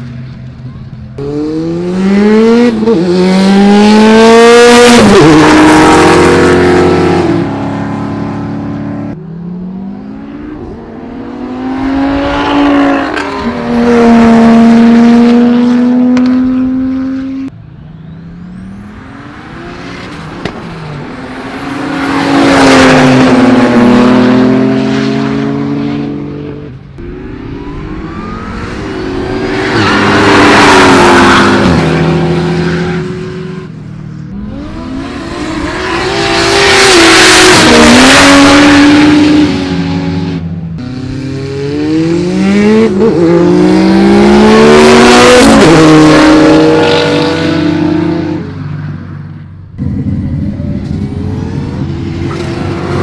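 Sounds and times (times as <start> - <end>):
cars accelerating at full throttle: 0.0 - 53.0.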